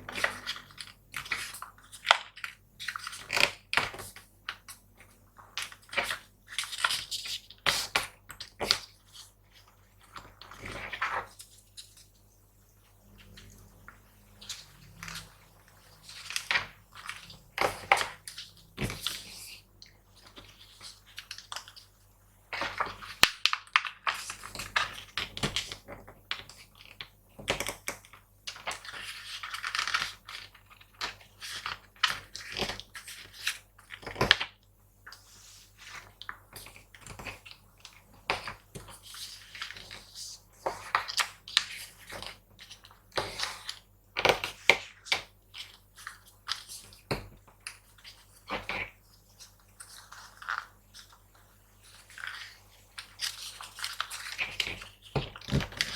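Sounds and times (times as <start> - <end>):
paper crinkling and rustling: 0.0 - 12.2, 12.9 - 55.9
faint steady hum: 0.0 - 55.9.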